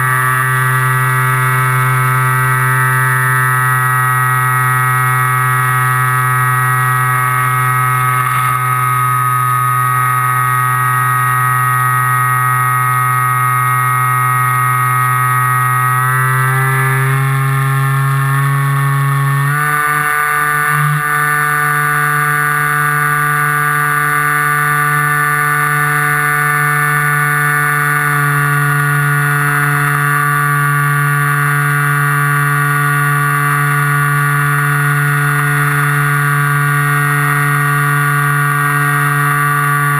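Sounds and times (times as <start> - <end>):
model aircraft motor and propeller: 0.0 - 39.9.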